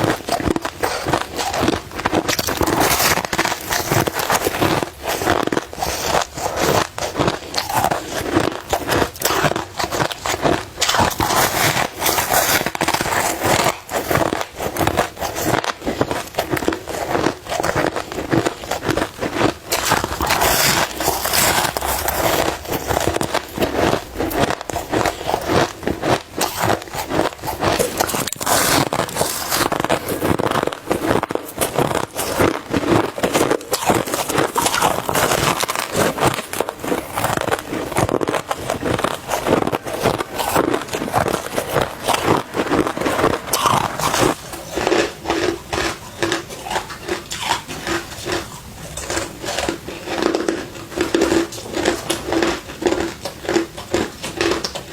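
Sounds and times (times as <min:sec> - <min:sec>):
crushed ice being chewed: 0:00.0 - 0:54.9.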